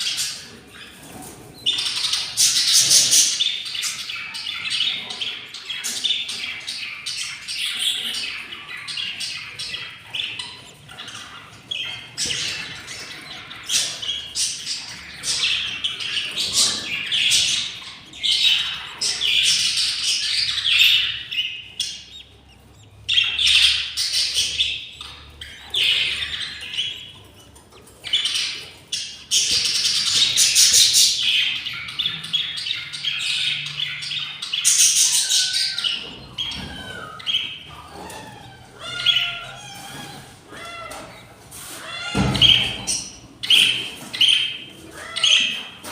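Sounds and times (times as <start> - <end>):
budgerigars squawking and chirping: 0.0 - 45.9.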